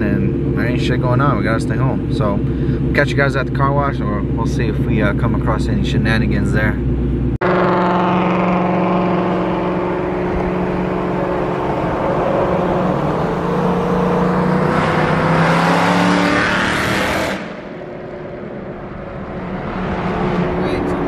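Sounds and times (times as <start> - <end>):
car exhaust droning: 0.0 - 21.0
wind and road noise: 0.0 - 21.0.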